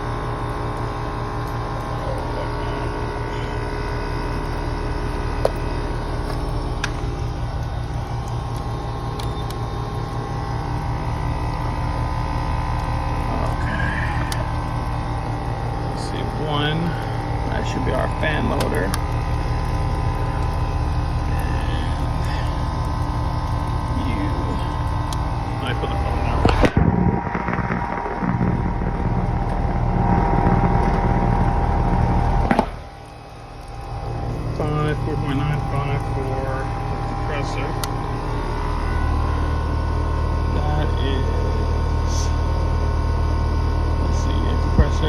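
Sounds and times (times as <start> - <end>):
air conditioner unit humming: 0.0 - 45.0.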